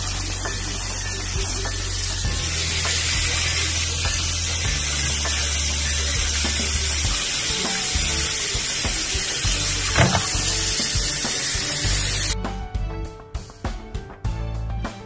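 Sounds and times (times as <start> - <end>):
tap water running: 0.0 - 12.4
music with drums: 0.0 - 15.0.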